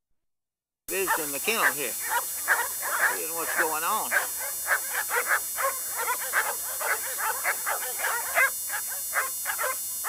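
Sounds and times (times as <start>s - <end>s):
dogs barking and yipping: 0.9s - 10.0s.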